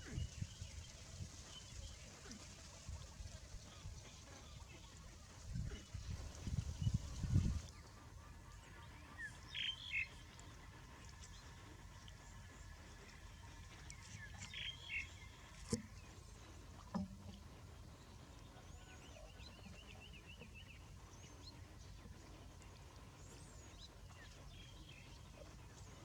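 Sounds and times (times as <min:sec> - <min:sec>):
low steady rumble: 0:00.0 - 0:26.0
small birds chirping: 0:00.0 - 0:26.0.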